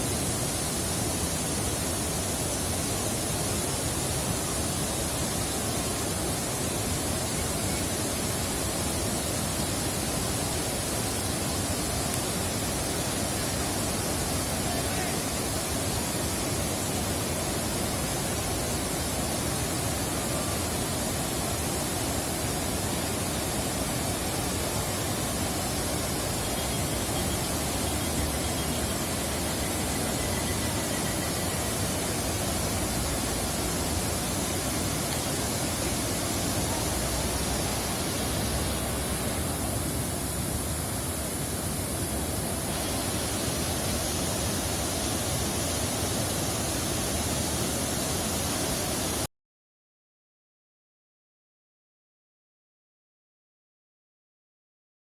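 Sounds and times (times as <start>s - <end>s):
river rushing: 0.0s - 49.3s.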